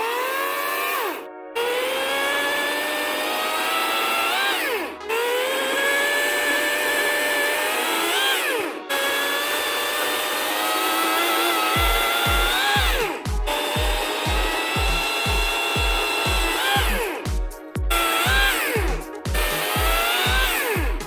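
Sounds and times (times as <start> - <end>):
electric chainsaw motor whining: 0.0 - 21.0.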